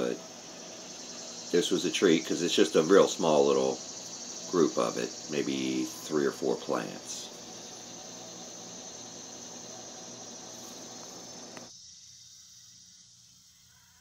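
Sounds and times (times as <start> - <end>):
background hiss: 0.0 - 14.0
high-pitched insect chirring: 0.0 - 14.0.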